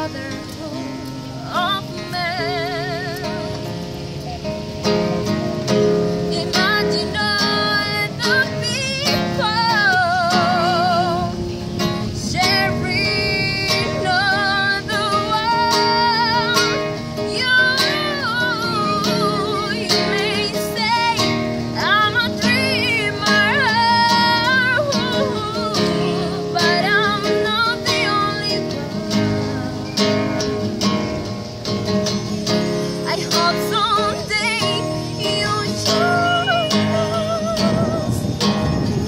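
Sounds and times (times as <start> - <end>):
person singing with vibrato: 0.0 - 3.9, 6.0 - 31.3, 32.6 - 39.0
plucked acoustic guitar: 0.0 - 39.0.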